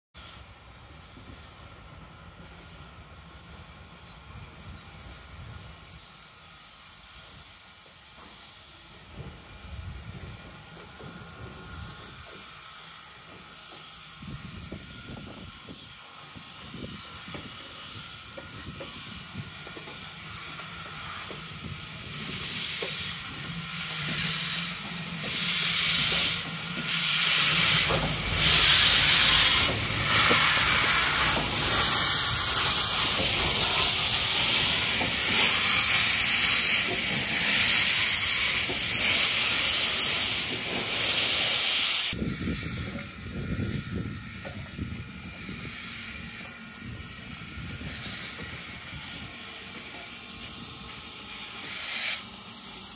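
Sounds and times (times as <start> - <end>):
rhythmic bursts of hissing steam: 0.2 - 52.9
steam locomotive moving: 0.2 - 52.9.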